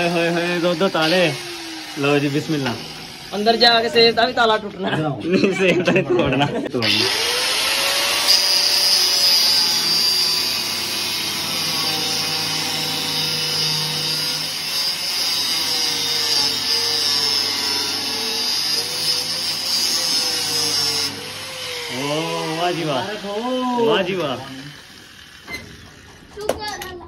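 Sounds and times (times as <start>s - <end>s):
power tool cutting metal: 0.0s - 4.8s, 6.8s - 26.4s.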